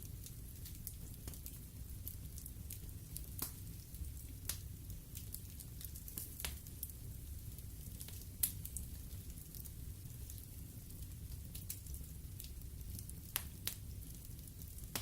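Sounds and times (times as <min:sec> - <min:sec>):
fire crackling and popping: 0:00.0 - 0:15.0
wood fire burning: 0:00.0 - 0:15.0.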